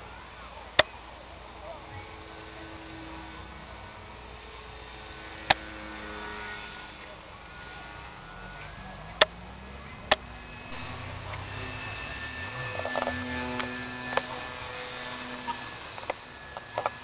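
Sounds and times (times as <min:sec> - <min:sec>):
model airplane electric motor whining: 0:00.0 - 0:17.0
outdoor noise: 0:00.0 - 0:17.0.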